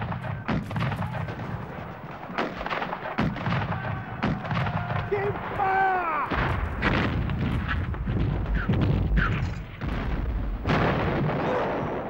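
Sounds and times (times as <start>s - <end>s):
sharp gunfire bangs: 0.0s - 5.6s, 6.2s - 12.0s
heavy cannon report: 0.0s - 12.0s.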